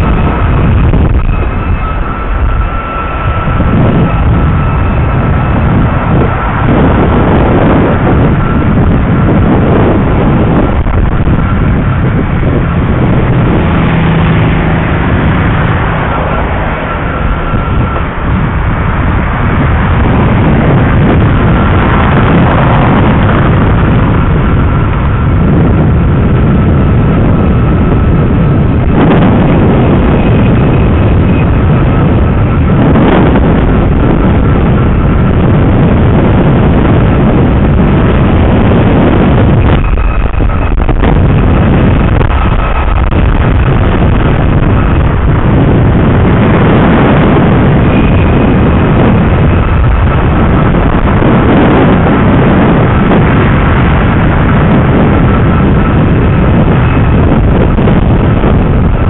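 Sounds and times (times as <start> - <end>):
faint thin whine: 0.0 - 59.0
road traffic: 0.0 - 59.0
rushing rumble of riding: 0.0 - 59.0
wind on microphone: 0.0 - 59.0.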